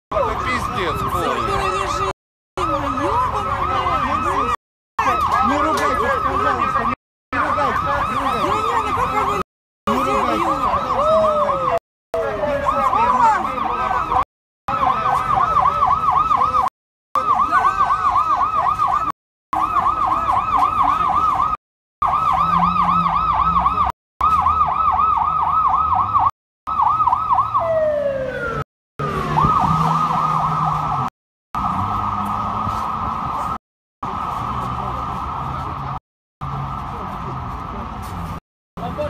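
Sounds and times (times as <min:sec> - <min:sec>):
police siren yelping: 0:00.1 - 0:37.5.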